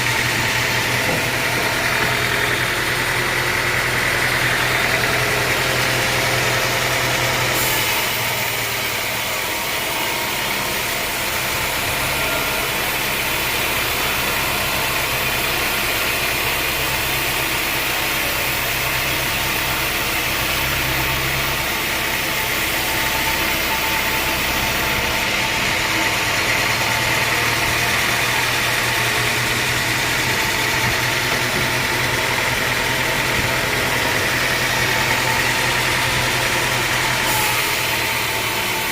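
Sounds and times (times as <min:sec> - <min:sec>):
sawmill engine hum: 0:00.0 - 0:38.9.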